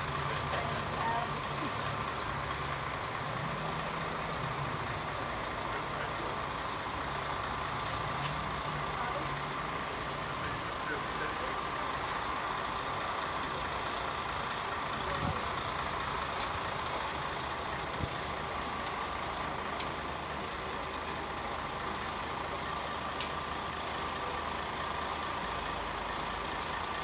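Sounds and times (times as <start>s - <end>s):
bus engine idling: 0.0s - 27.0s.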